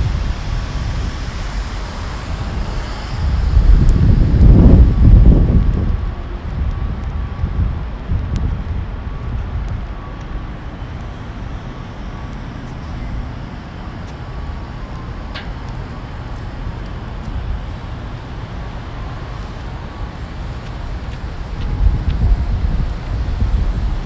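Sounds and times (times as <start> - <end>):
distant city traffic: 0.0 - 24.0
wind buffeting microphone: 0.0 - 24.0.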